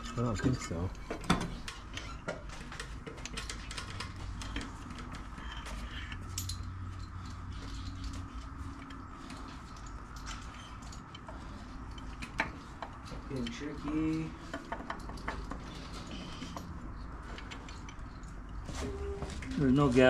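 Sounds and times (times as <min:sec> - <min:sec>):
faint background hum: 0:00.0 - 0:20.0.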